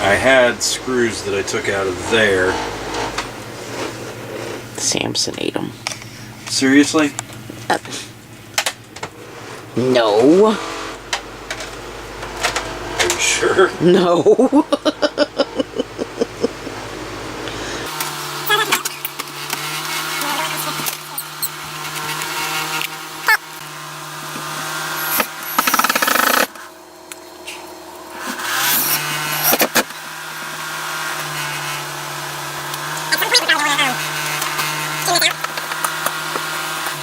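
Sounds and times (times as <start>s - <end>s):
power tool motor running: 0.0s - 4.9s, 7.9s - 14.2s, 14.8s - 37.0s.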